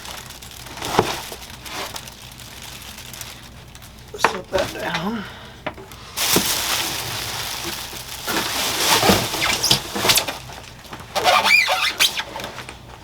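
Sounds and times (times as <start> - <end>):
packing material rustling and scraping: 0.0 - 5.1, 5.8 - 13.0.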